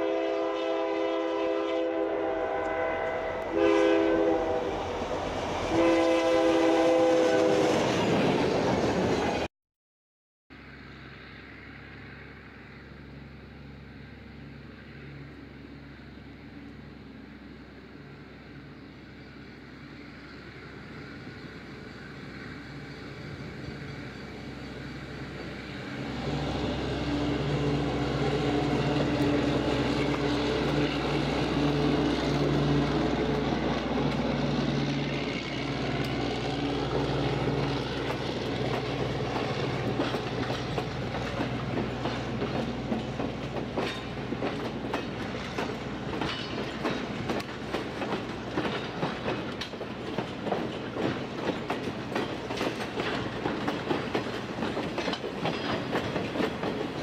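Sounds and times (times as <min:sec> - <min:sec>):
diesel locomotive engine hum: 0:00.0 - 0:09.5, 0:10.5 - 0:57.0
train wheels clicking on rail joints: 0:11.0 - 0:57.0.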